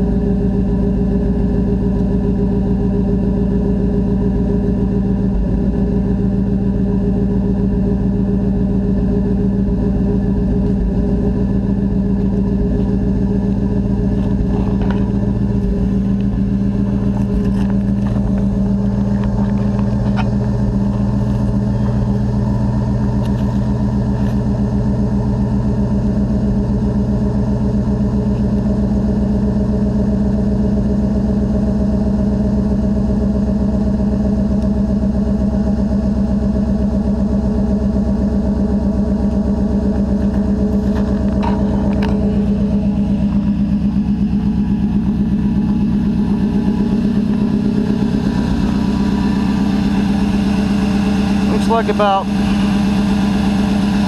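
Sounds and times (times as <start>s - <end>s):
pickup engine idling: 0.0s - 54.0s.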